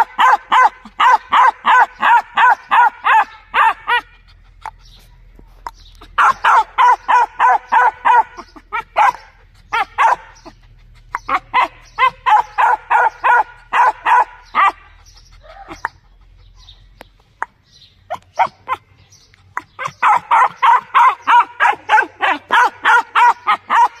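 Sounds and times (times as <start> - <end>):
young dog barking: 0.0 - 4.2, 6.0 - 16.0, 18.1 - 19.0, 19.6 - 24.0.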